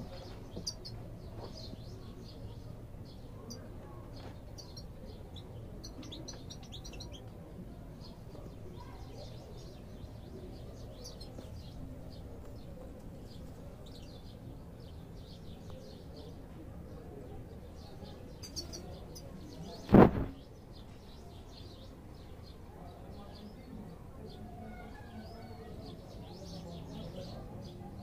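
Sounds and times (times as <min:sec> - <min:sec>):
low background noise: 0:00.0 - 0:28.0.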